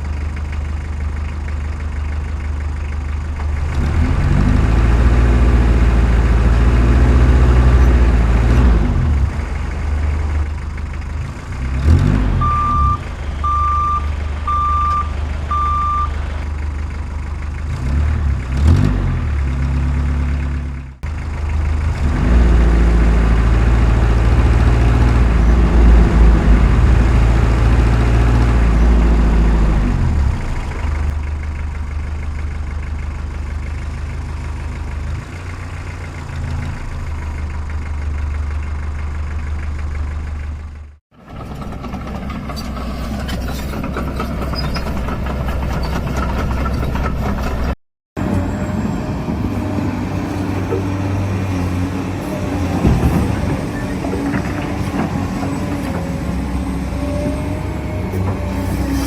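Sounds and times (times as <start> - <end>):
construction machinery engine rumble: 0.0 - 59.0.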